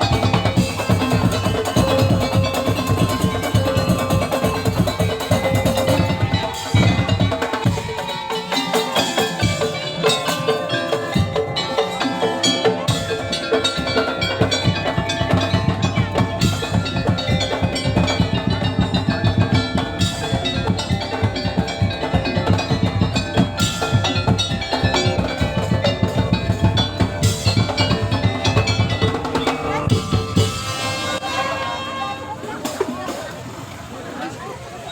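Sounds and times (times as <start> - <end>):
ringing tuned percussion: 0.0 - 33.2
band playing fast beat: 0.0 - 33.5
drums: 0.0 - 34.9.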